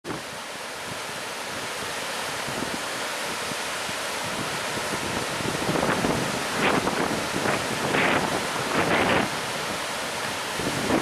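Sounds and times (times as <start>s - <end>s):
ocean waves breaking: 0.1s - 11.0s.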